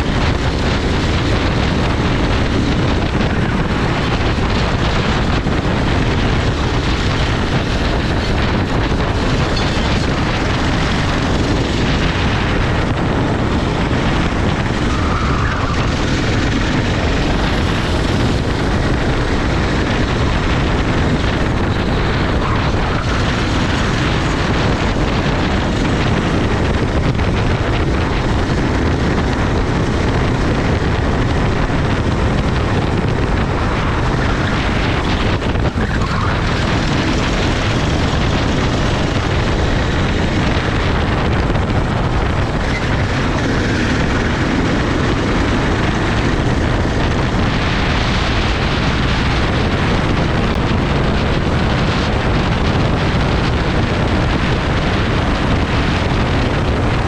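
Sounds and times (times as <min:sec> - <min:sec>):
racing kart engine: 0:00.0 - 0:57.0
wind buffeting microphone: 0:00.0 - 0:57.0.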